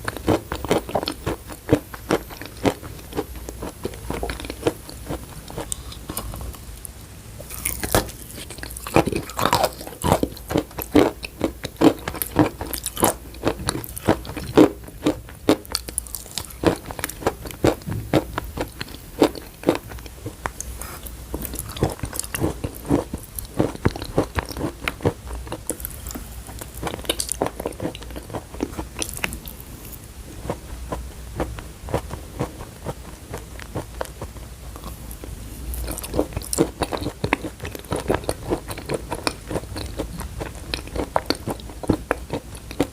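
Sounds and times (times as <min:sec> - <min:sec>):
chewing and crunching chalk: 0:00.0 - 0:06.6, 0:07.5 - 0:42.9.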